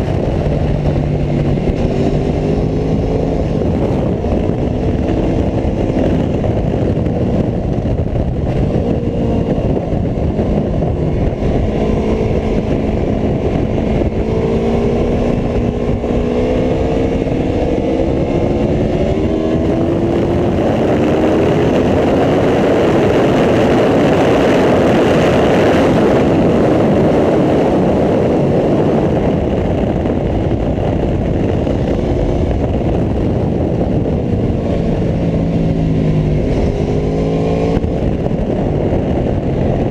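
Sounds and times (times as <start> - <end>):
motorcycle engine accelerating: 0.0 - 39.9
wind noise rushing: 0.0 - 39.9.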